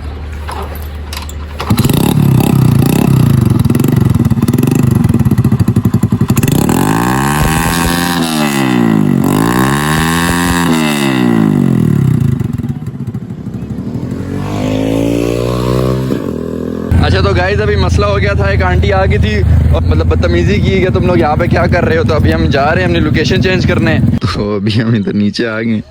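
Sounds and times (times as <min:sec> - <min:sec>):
motorcycle engine revving: 0:01.4 - 0:24.2.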